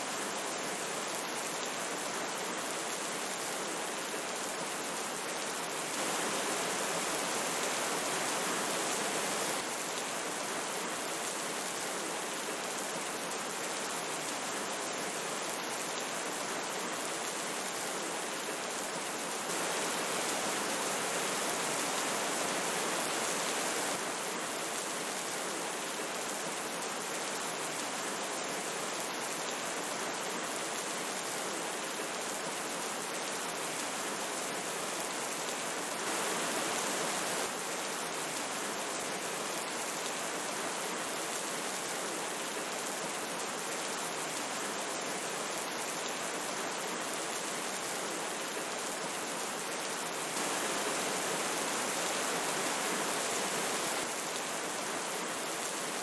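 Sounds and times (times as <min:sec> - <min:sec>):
flowing stream: 0:00.0 - 0:56.0
steady rain: 0:00.0 - 0:56.0.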